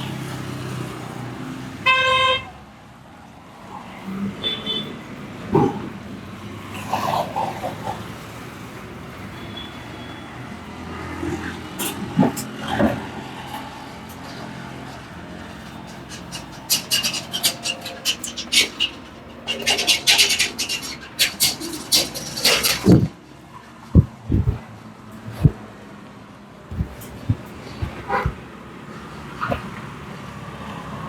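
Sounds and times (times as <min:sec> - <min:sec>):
street traffic hum: 0:00.0 - 0:31.0.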